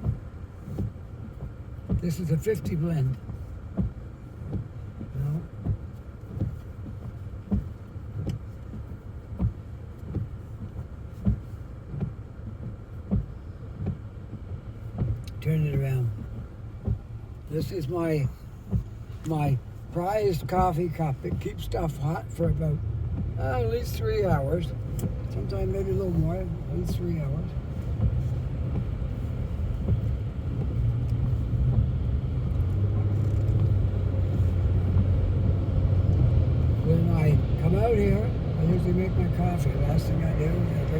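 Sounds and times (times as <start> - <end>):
car engine and tyres rumbling: 0.0 - 40.9
windshield wipers thumping: 0.0 - 40.9.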